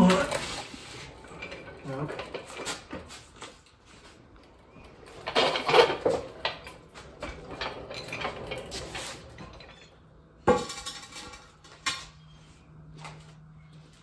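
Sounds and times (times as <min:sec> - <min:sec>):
loose metal parts rattling: 0:00.0 - 0:12.2.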